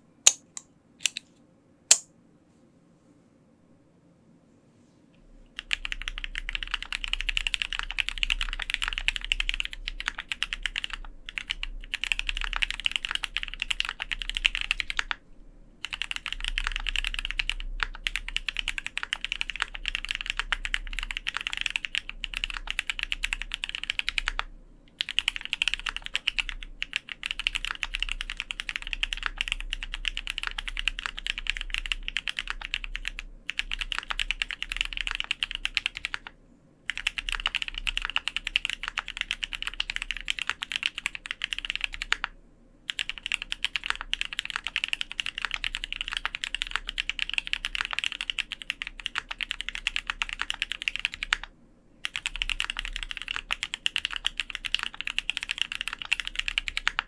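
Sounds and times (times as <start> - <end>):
fast mechanical keyboard typing: 5.6 - 15.2, 15.8 - 42.3, 42.9 - 57.0.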